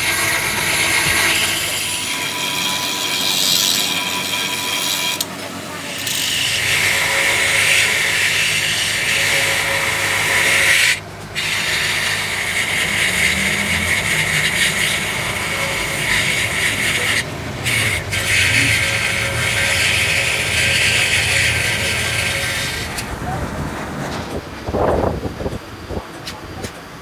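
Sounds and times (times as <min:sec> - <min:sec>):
angle grinder grinding metal: 0:00.0 - 0:23.2.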